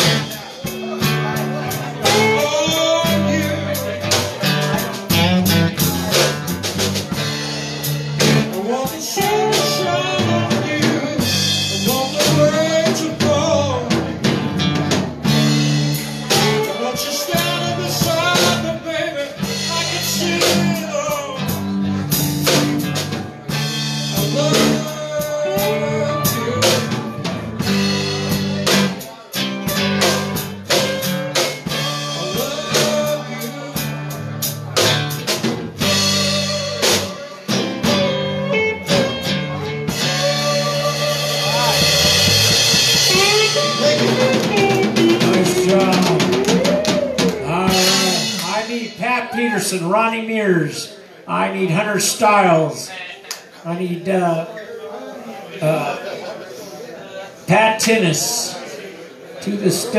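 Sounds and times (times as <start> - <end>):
electric guitars: 0.0 - 49.9
bass guitar: 0.0 - 52.8
drum kit: 0.0 - 52.8.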